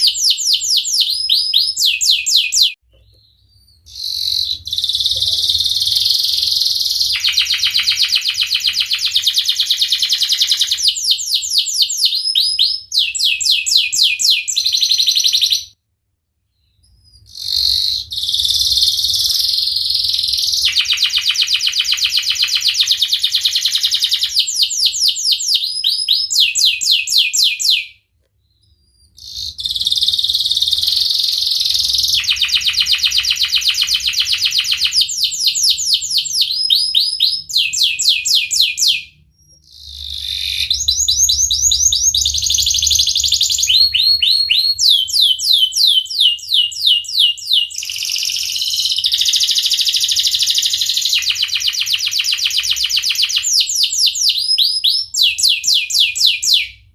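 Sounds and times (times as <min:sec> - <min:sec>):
canary singing trills: 0:00.0 - 0:15.8, 0:16.5 - 0:56.9.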